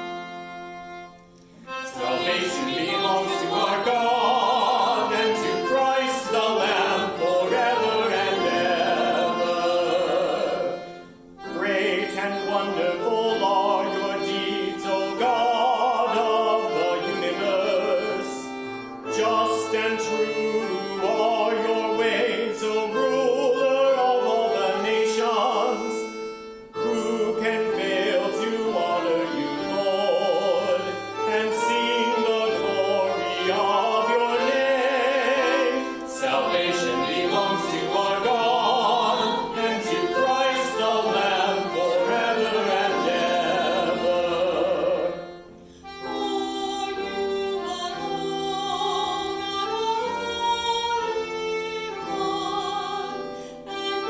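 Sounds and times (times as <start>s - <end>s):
instrumental accompaniment: 0.0s - 54.0s
voices singing with vibrato: 1.7s - 53.3s.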